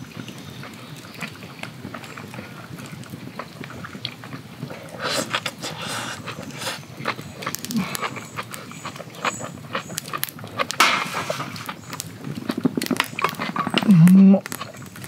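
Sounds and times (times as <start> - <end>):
chewing: 0.0 - 15.0
noodles slurped: 1.2 - 15.0.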